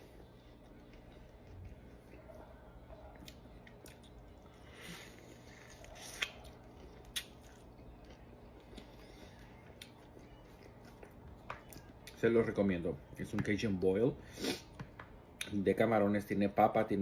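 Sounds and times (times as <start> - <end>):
chewing and wet smacking: 0.0 - 13.8.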